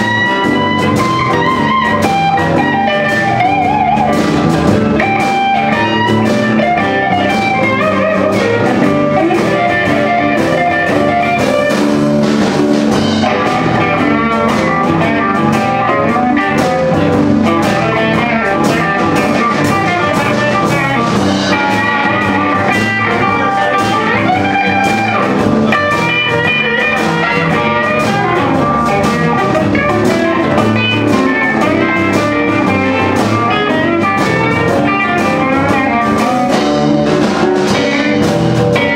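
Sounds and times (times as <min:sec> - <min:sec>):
drum kit: 0:00.0 - 0:38.9
electric guitars: 0:00.0 - 0:38.9
keyboard: 0:00.0 - 0:38.9.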